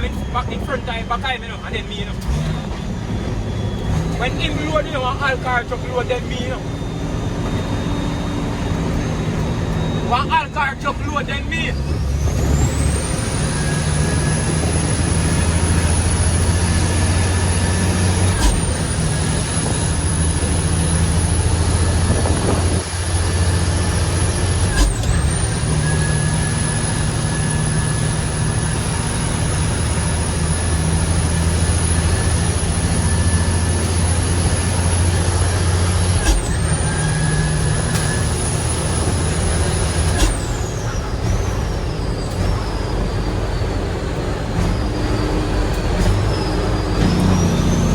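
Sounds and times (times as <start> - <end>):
diesel truck engine under load: 0.0 - 47.9
turbocharger whistle: 0.0 - 47.9.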